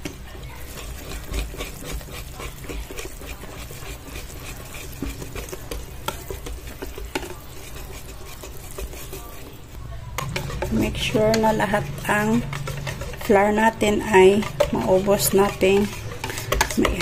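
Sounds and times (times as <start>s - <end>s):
whisk scraping metal bowl: 0.0s - 17.0s.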